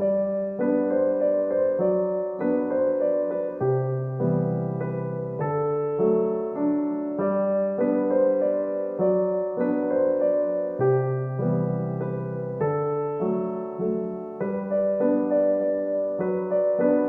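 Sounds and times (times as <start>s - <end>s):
soft piano tune: 0.0s - 17.0s.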